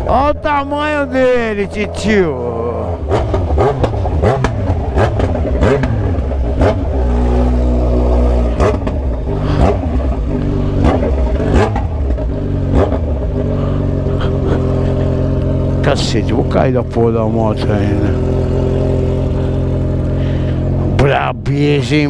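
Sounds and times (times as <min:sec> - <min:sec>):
motorcycle exhaust revving: 0:00.0 - 0:22.0
sharp exhaust cracks: 0:00.0 - 0:22.0.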